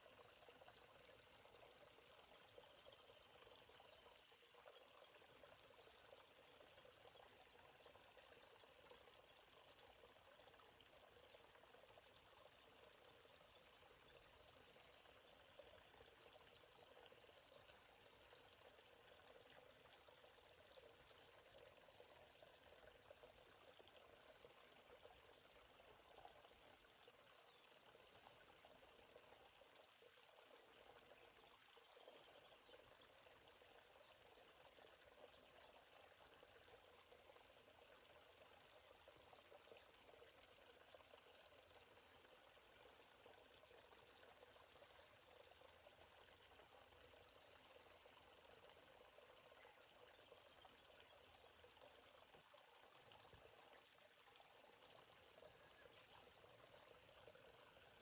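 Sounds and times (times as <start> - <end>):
forest stream murmur: 0.0 - 58.0.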